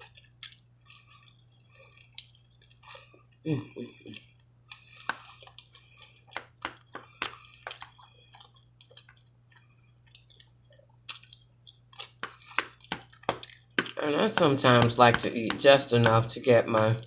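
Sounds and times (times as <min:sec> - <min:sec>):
person chewing food: 0:00.0 - 0:17.0
steady low hum: 0:00.0 - 0:17.0.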